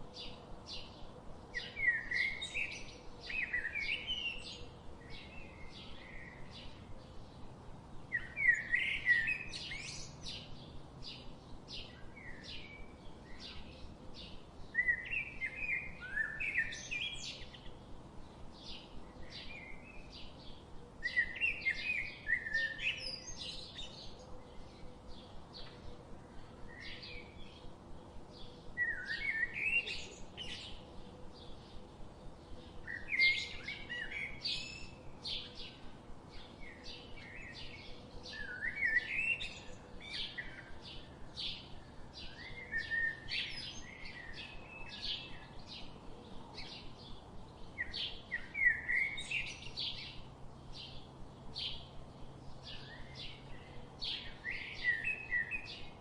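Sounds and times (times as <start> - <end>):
bird warbling song: 0.0 - 7.5, 8.1 - 18.0, 18.6 - 27.7, 28.3 - 56.0.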